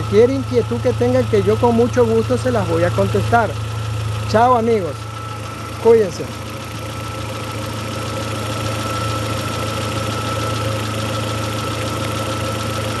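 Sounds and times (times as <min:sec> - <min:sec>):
car engine idling: 0:00.0 - 0:13.0
high whine: 0:00.0 - 0:13.0.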